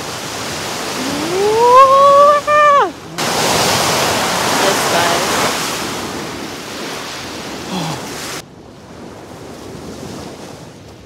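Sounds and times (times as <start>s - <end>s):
waves breaking on shore: 0.0s - 11.0s
wind buffeting microphone: 0.0s - 11.0s.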